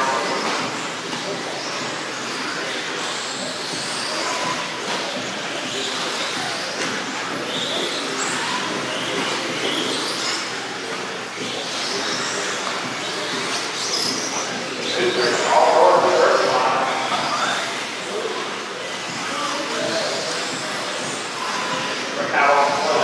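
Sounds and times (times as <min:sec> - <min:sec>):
constant noisy haze: 0:00.0 - 0:23.0.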